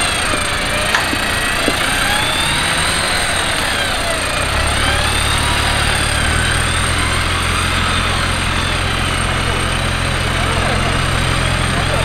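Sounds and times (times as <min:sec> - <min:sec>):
off-road vehicle engine drone: 0:00.0 - 0:12.0.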